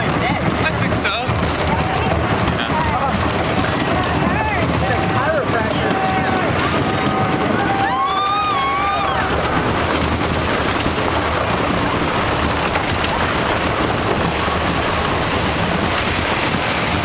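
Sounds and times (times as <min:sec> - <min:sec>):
wind rushing over microphone: 0:00.0 - 0:17.0
wooden roller coaster wheels clattering: 0:00.0 - 0:17.0.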